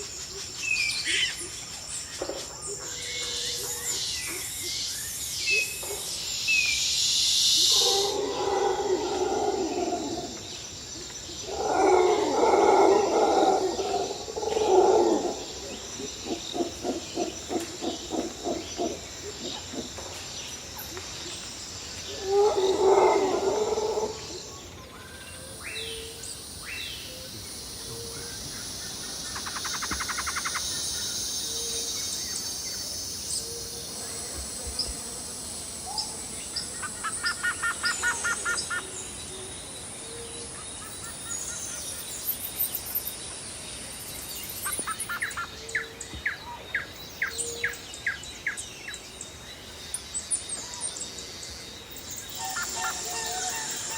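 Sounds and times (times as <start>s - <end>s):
birds chirping and trilling: 0.0s - 53.9s
insect drone: 0.0s - 53.9s.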